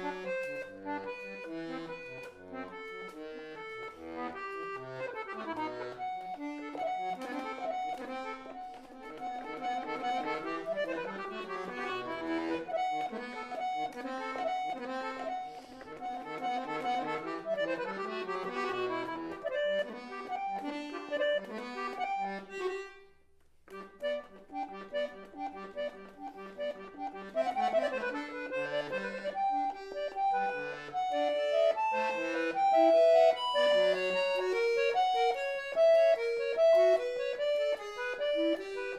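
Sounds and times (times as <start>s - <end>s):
harpsichord playing baroque music: 0.0s - 22.4s, 24.5s - 38.9s.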